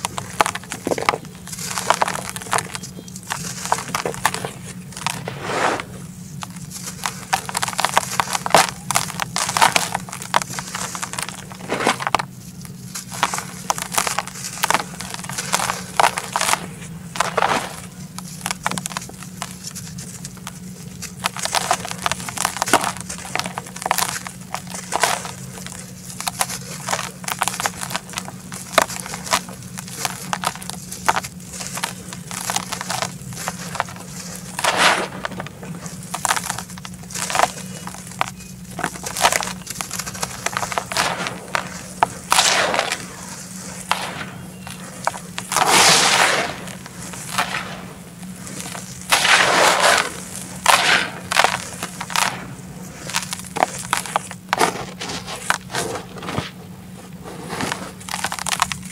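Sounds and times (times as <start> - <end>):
hands crumbling dry dirt: 0.0 - 58.9.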